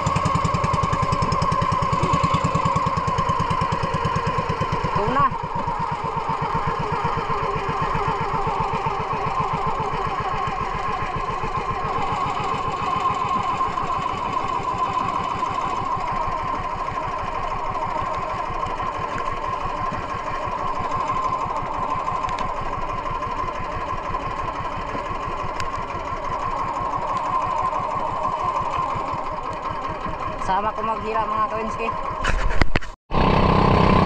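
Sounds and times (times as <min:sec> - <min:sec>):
small boat engine running: 0:00.0 - 0:34.0.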